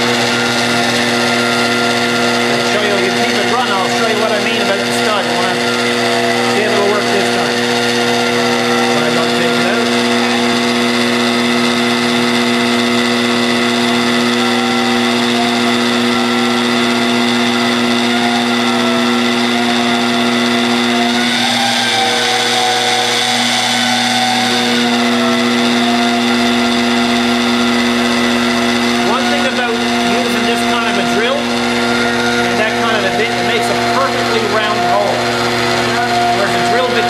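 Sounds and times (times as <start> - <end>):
drill press motor whining: 0.0 - 37.0.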